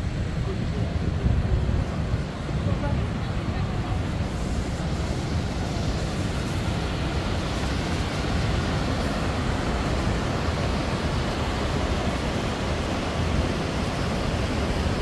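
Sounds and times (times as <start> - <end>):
white water rushing: 0.0 - 15.0.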